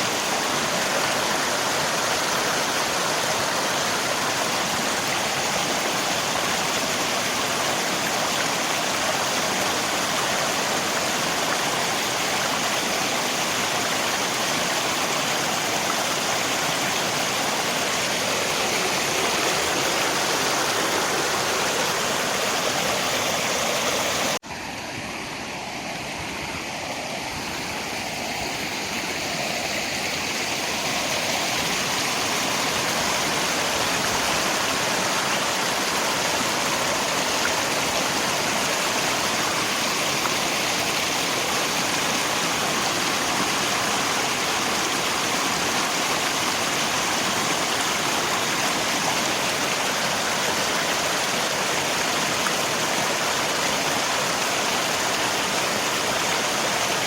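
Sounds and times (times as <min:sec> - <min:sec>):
rain: 0:00.0 - 0:57.0
river water rushing: 0:00.0 - 0:57.0.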